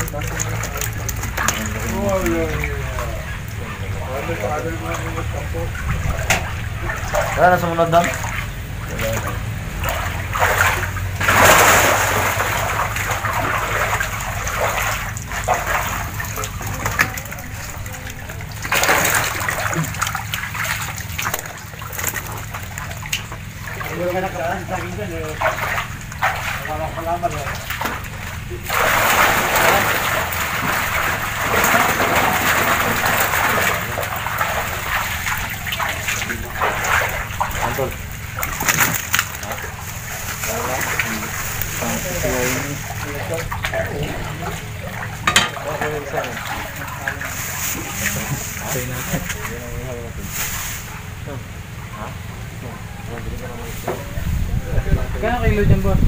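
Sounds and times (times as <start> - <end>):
water streaming off net: 0.0 - 51.2
water splashing and sloshing: 0.0 - 56.0.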